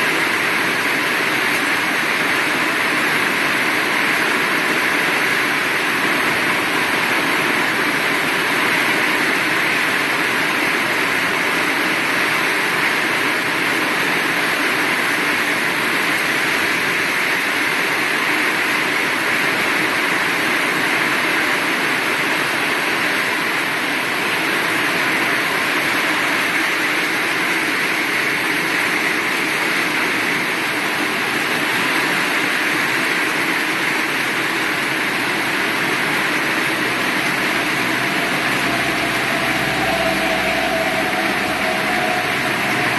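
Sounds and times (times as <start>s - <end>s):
heavy rain falling: 0.0s - 23.5s, 24.1s - 42.9s.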